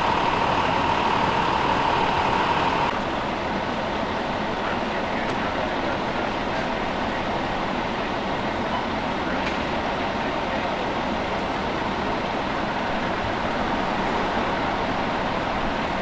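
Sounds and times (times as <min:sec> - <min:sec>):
street traffic: 0:00.0 - 0:16.0
vehicle engine idling: 0:00.0 - 0:16.0.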